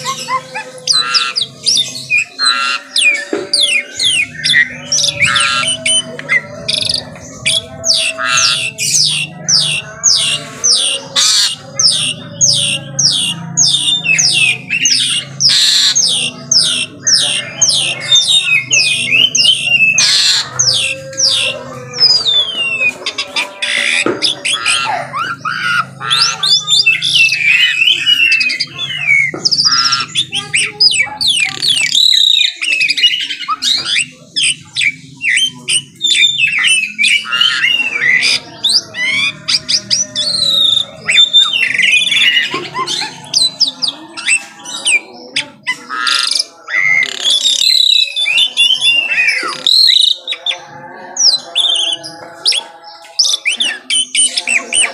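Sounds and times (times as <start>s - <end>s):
starling singing: 0.0s - 54.9s.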